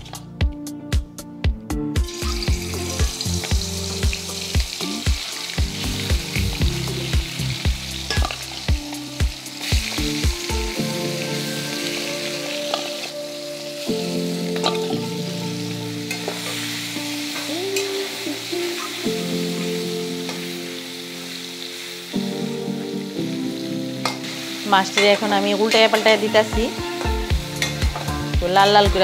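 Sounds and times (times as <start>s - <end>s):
fish sizzling in hot oil: 2.1s - 29.0s.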